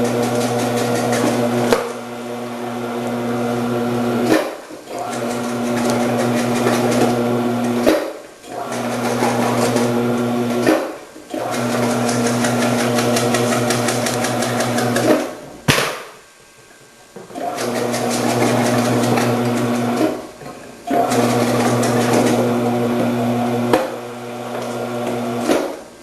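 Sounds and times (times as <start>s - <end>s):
vegetable processor motor humming: 0.0s - 7.9s, 8.5s - 10.7s, 11.3s - 15.1s, 17.4s - 20.2s, 20.9s - 25.7s.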